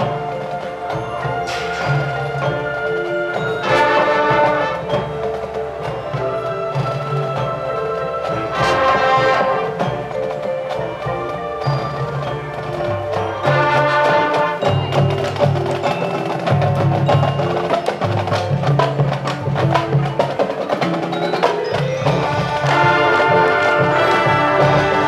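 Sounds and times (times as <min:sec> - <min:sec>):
marching band playing: 0:00.0 - 0:25.0
ringing mallet notes: 0:00.0 - 0:25.0
sharp percussion strikes: 0:00.0 - 0:25.0.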